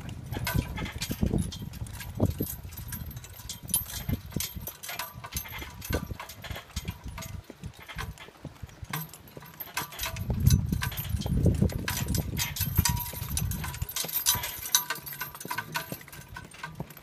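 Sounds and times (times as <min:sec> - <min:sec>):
harness chains jingling: 0:00.0 - 0:17.0
hooves clopping on forest ground: 0:00.0 - 0:17.0.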